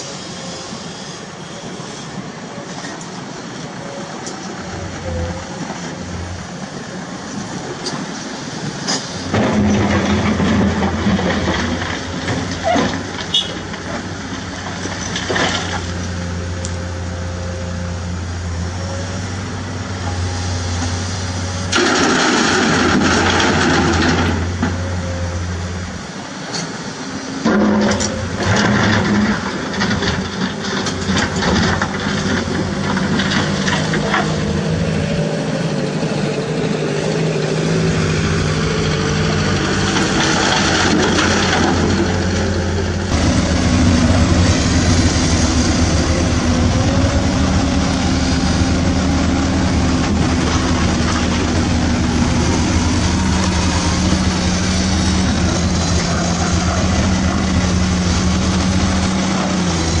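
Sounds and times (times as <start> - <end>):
excavator engine running: 0.0 - 60.0.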